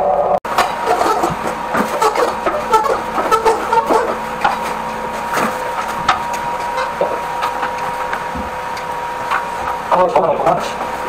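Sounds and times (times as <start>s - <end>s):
machine whining: 0.0s - 11.0s.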